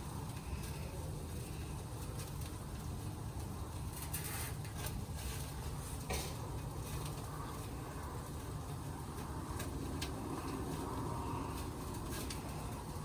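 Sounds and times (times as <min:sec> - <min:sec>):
gas grill rumbling: 0:00.0 - 0:13.0.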